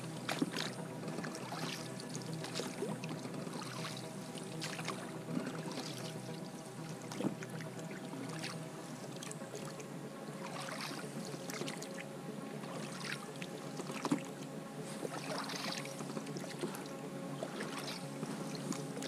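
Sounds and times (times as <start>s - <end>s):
faint hum: 0.0s - 19.0s
paddle swishing through water: 0.0s - 19.0s.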